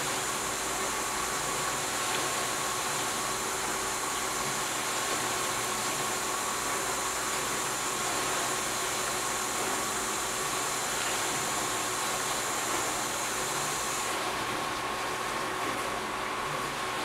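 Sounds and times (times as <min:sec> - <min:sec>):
aquarium filter hissing: 0:00.0 - 0:17.0.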